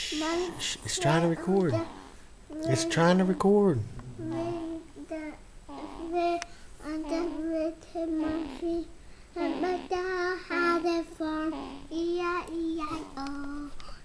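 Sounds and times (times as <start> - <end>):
young child singing: 0.0 - 1.9, 4.2 - 14.0.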